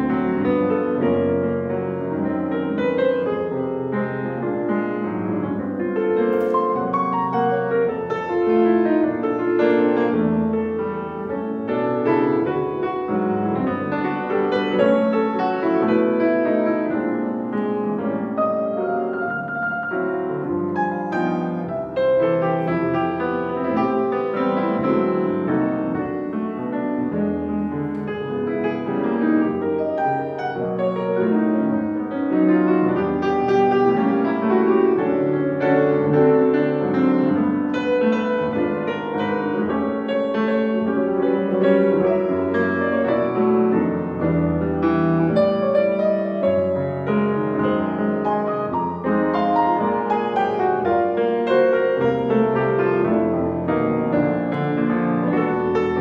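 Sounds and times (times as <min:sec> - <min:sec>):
solo grand piano: 0:00.0 - 0:56.0.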